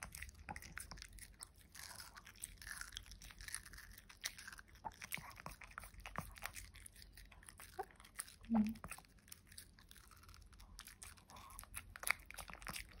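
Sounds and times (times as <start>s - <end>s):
dog crunching watermelon: 0.0s - 13.0s.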